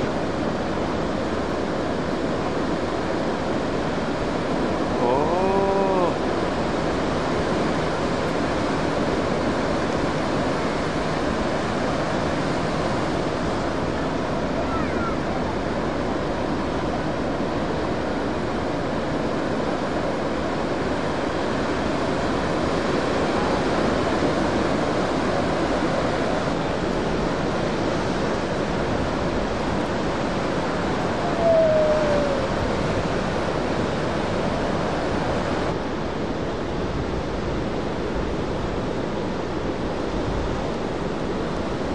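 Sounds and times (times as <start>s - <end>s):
heavy ocean surf breaking: 0.0s - 41.9s.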